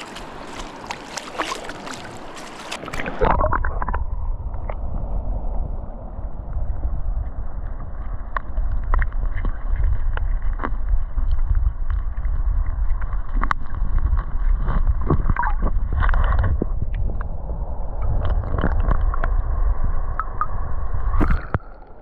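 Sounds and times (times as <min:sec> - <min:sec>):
wind buffeting microphone: 0:00.0 - 0:21.7.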